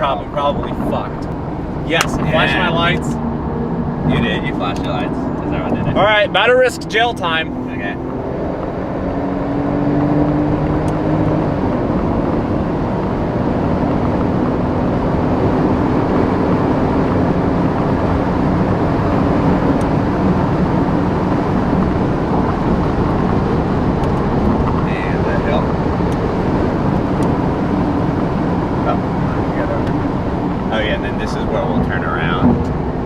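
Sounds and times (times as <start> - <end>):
car engine accelerating hard: 0.0 - 33.0
road and wind noise: 0.0 - 33.0.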